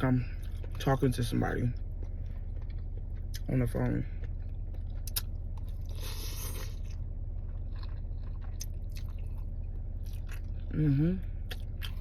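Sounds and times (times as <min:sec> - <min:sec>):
chewing crunchy food: 0:00.0 - 0:12.0
low hum: 0:00.0 - 0:12.0.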